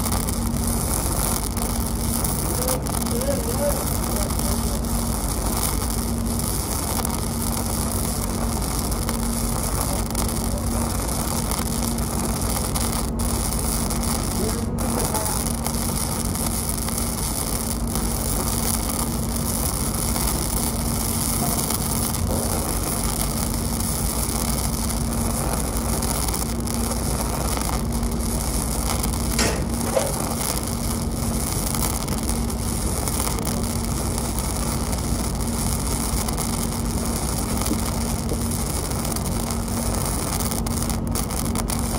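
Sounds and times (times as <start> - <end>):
steady low hum: 0.0 - 41.9
welding arc crackling hiss: 0.0 - 41.9.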